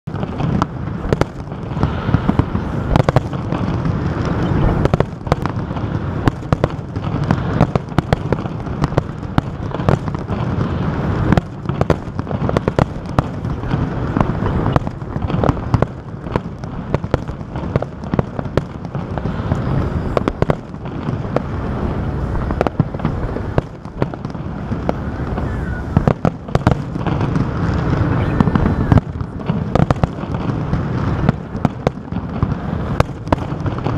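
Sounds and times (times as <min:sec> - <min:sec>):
fireworks cracks and bangs: 0:00.0 - 0:33.9
low rumble of bursting shells: 0:00.0 - 0:33.9.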